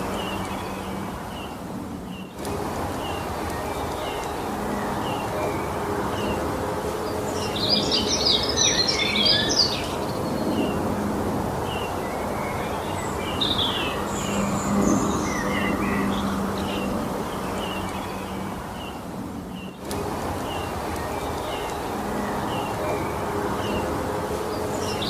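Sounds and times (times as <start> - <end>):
rapid bird twittering song: 0.0 - 25.0
songbird chirps: 0.0 - 25.0
steady background hiss: 0.0 - 25.0.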